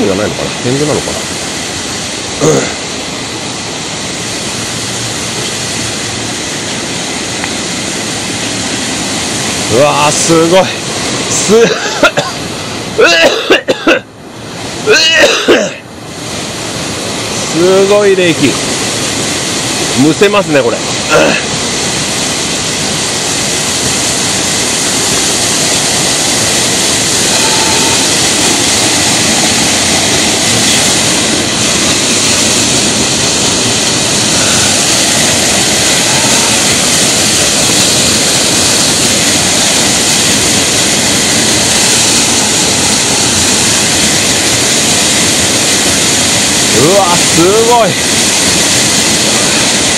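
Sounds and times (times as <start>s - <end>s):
waterfall roaring: 0.0s - 49.9s.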